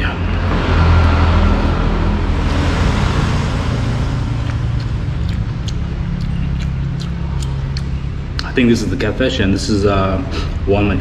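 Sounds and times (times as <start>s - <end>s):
low engine rumble: 0.0s - 11.0s
road traffic going by: 0.0s - 11.0s.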